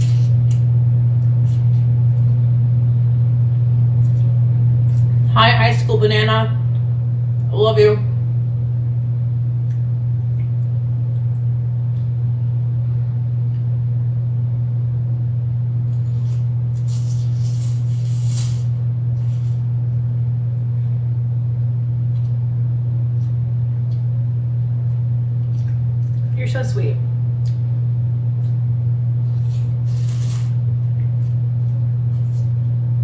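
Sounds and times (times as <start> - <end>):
loud low hum: 0.0 - 33.0.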